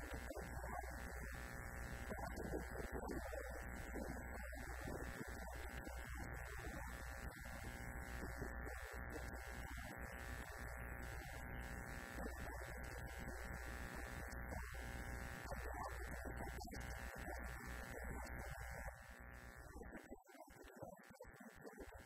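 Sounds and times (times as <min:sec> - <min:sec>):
electrical buzz: 0:00.0 - 0:19.8.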